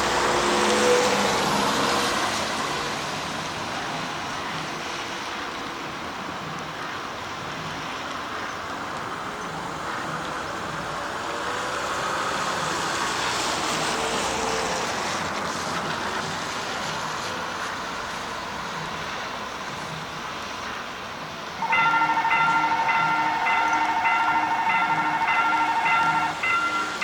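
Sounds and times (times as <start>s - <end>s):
road vehicle driving past: 0.0s - 6.2s, 7.3s - 27.0s.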